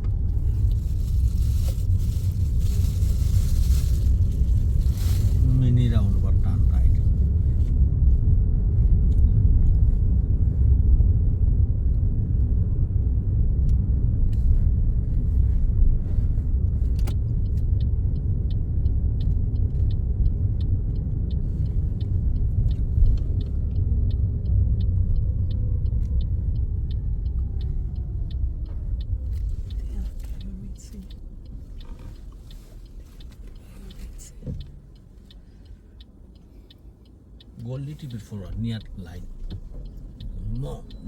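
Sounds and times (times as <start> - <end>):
car road and engine rumble: 0.0 - 41.0
turn indicator ticking: 0.0 - 41.0.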